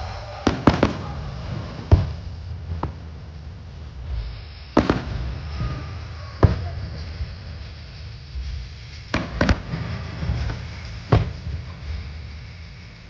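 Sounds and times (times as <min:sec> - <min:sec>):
fireworks bangs with echoing rumble: 0:00.0 - 0:13.0.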